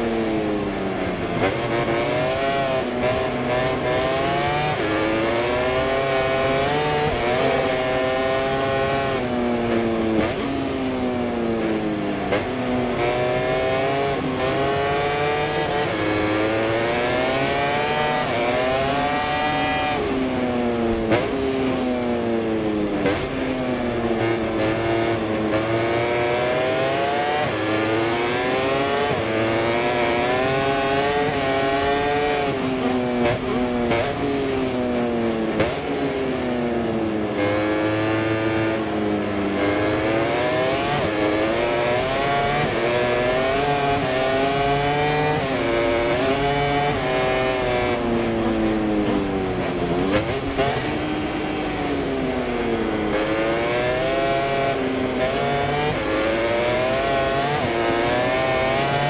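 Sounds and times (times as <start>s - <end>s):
racing motorcycle engine revving: 0.0s - 59.0s.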